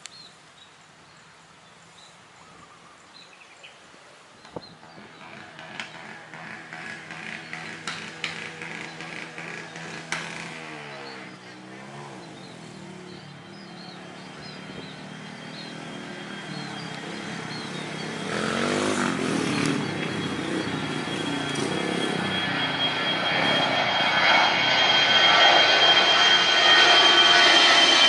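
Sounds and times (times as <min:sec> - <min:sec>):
airliner taking off: 0:04.7 - 0:28.0
steady high whine: 0:04.7 - 0:28.0.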